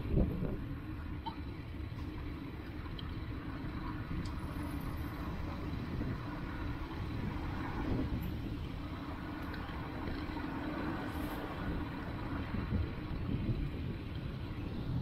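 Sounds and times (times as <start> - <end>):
busy road traffic rumble: 0.0 - 15.0.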